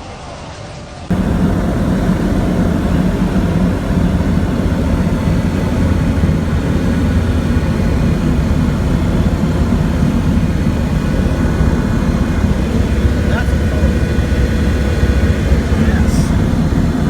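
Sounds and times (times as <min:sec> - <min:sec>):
strong wind on microphone: 0:01.1 - 0:17.0.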